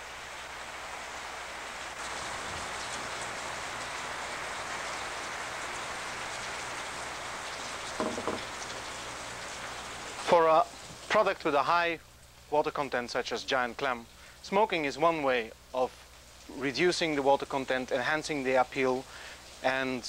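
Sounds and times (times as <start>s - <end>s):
steady hissing noise: 0.0s - 20.0s.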